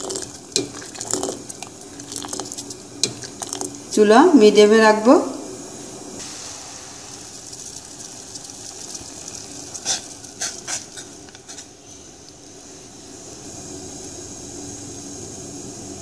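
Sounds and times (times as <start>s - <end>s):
water boiling in a pot: 0.0s - 16.0s.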